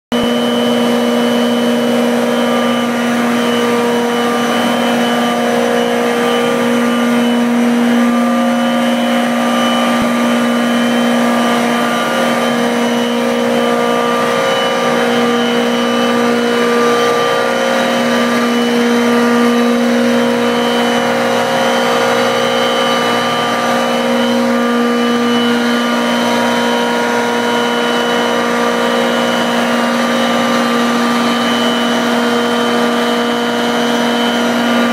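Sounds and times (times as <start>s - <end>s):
compressor droning: 0.1s - 34.9s
thin high whine: 0.1s - 34.9s.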